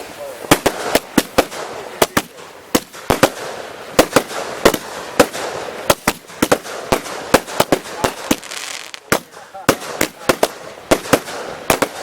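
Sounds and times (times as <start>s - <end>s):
firework crackle: 0.0s - 12.0s
fireworks banging: 0.0s - 12.0s.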